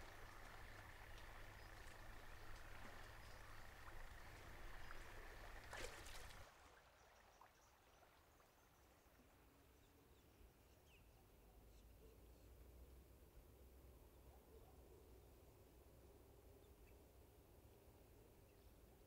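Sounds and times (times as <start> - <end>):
outdoor ambience: 0.0 - 19.0.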